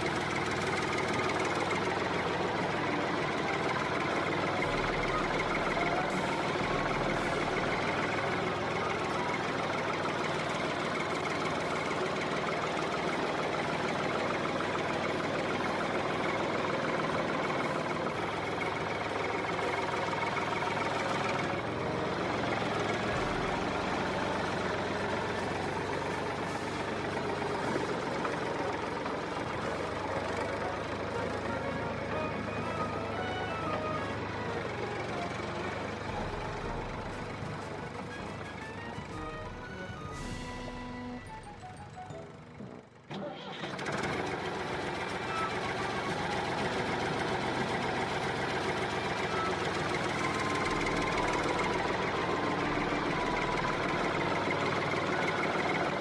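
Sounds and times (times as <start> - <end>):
heavy vehicle engine idling: 0.0 - 56.0.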